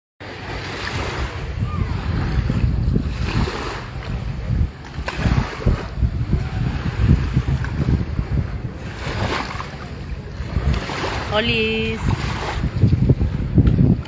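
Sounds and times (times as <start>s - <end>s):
beach wind and surf: 0.2s - 14.0s
wind buffeting microphone: 0.4s - 14.0s.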